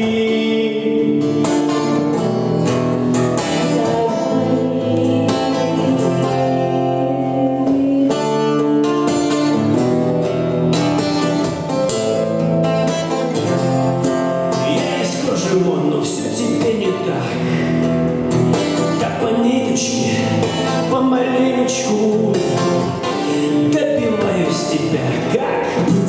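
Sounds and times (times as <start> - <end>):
guitar strumming chords: 0.0 - 26.0.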